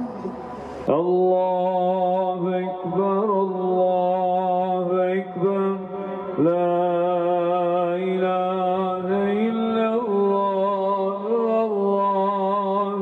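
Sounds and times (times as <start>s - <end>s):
man chanting melismatic recitation: 0.8s - 13.0s.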